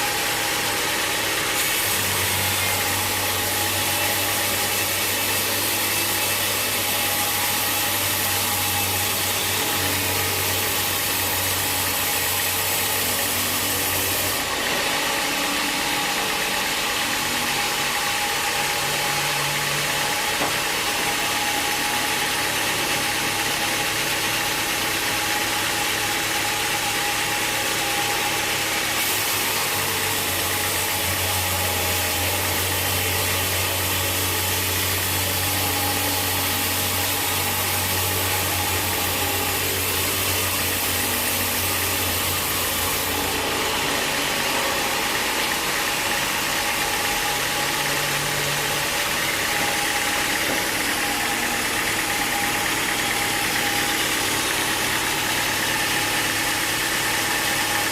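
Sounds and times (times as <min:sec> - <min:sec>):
sawmill machinery whine: 0:00.0 - 0:57.9.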